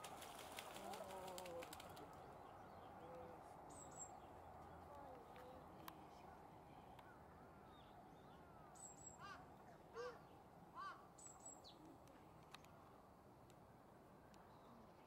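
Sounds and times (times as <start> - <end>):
faint bird calls: 0.1 - 12.8.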